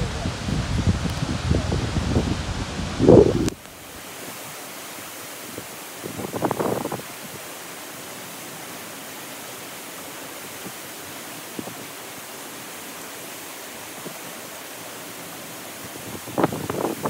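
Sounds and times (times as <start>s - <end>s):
stream running over rocks: 0.0s - 17.0s
waterfall rushing: 0.0s - 17.0s.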